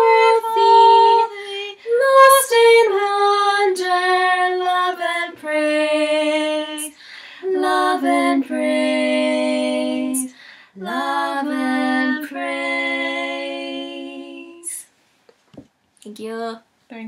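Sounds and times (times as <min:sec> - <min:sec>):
women singing unaccompanied: 0:00.0 - 0:14.9.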